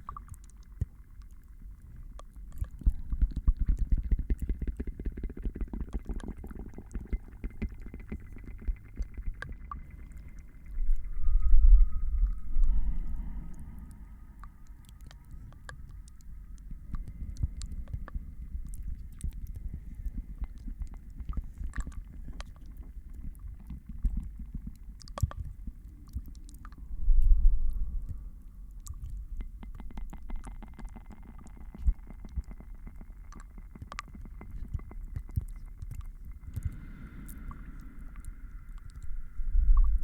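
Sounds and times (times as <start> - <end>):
small clicks and crackles: 0.0 - 40.0
muffled low rumble: 6.3 - 40.0.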